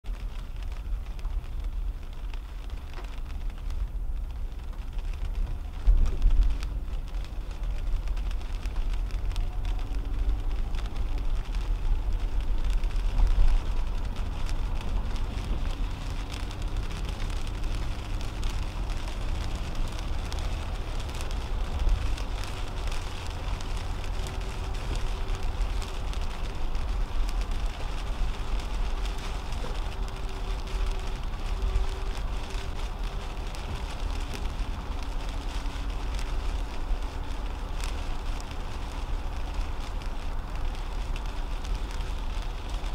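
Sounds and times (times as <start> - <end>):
road rumble: 0.0 - 42.9
raindrops ticking on windshield: 0.1 - 42.9
tyres hissing on wet pavement: 0.1 - 42.9.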